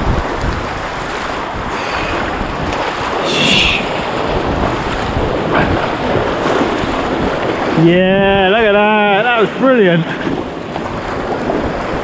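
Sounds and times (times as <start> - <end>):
waves washing around kayak: 0.0 - 12.0
wind buffeting microphone: 0.0 - 12.0.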